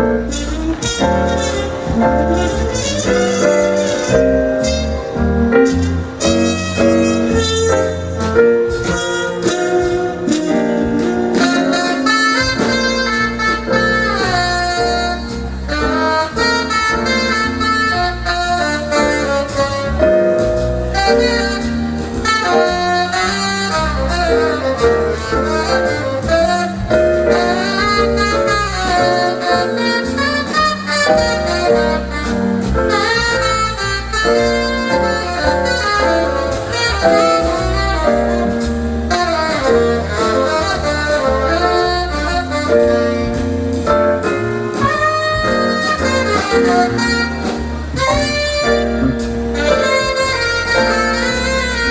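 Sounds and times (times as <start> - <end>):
jazz band playing: 0.0 - 51.9
tenor saxophone lead: 0.0 - 51.9.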